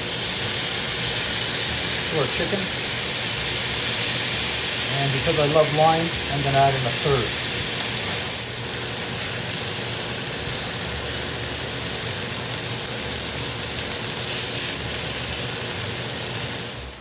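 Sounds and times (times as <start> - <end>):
chicken sizzling in frying pan: 0.0 - 17.0.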